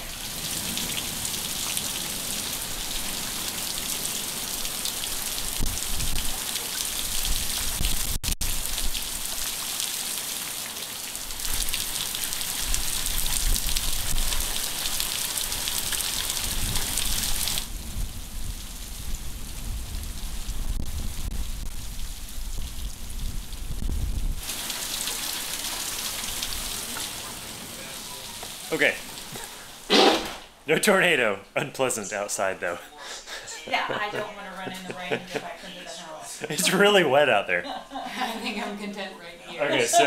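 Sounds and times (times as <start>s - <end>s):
heavy rain pouring: 0.0s - 37.4s.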